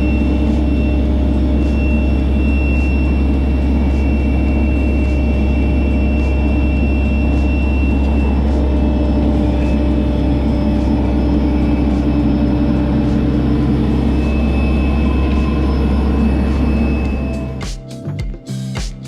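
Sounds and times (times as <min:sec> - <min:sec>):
heavy engine droning: 0:00.0 - 0:17.6
music: 0:00.0 - 0:19.0.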